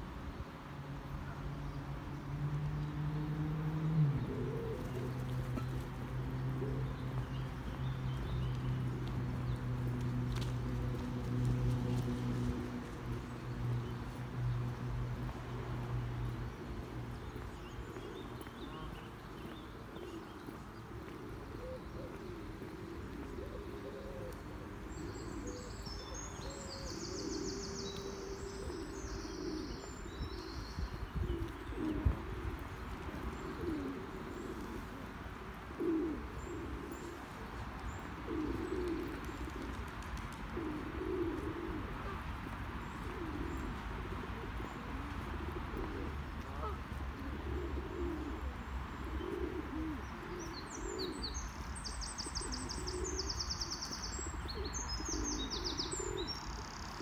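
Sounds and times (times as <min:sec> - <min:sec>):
pigeons cooing: 0:03.8 - 0:57.0.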